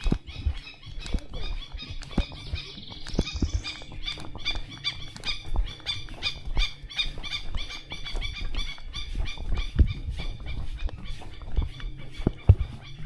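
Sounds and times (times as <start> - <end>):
animal chirping: 0.0 - 13.0
dull low thuds: 0.0 - 13.0.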